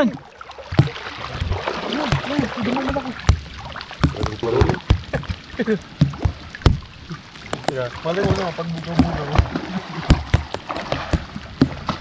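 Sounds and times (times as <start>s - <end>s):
seawater splashing and sloshing: 0.0s - 12.0s
sharp knocks: 0.7s - 5.4s, 6.0s - 6.9s, 7.5s - 12.0s.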